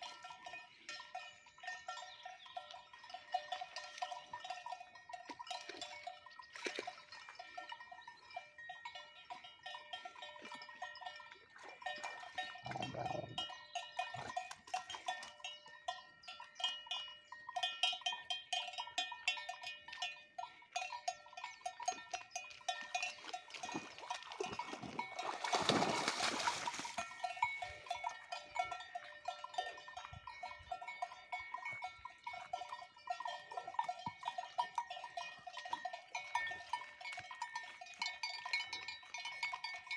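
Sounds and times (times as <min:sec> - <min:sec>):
cattle bells clanking: 0:00.0 - 0:39.9.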